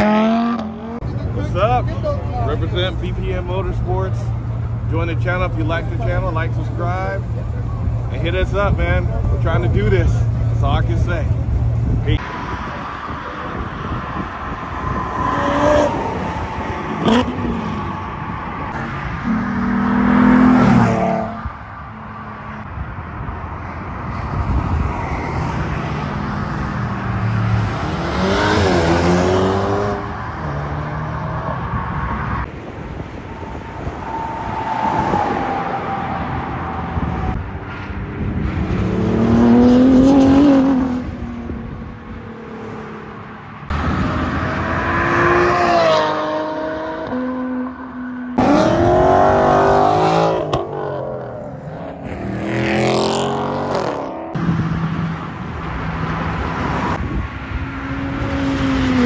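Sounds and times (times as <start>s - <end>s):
cars accelerating hard: 0.0s - 8.2s, 9.9s - 59.0s.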